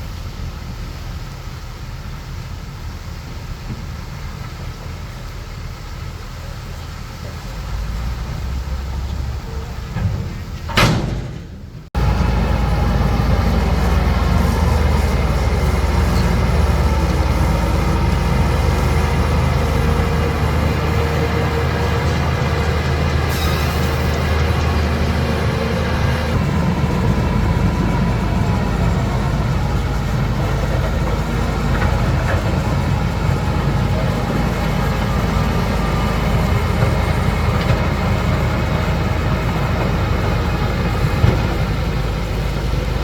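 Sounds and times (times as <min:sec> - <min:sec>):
diesel engine rumbling: 0:00.0 - 0:43.0.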